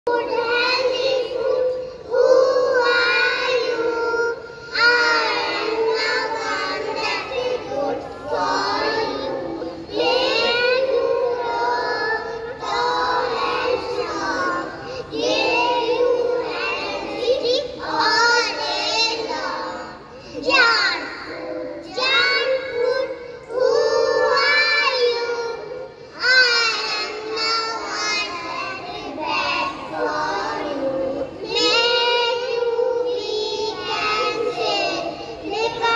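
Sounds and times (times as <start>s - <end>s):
children singing in unison: 0.0s - 35.9s.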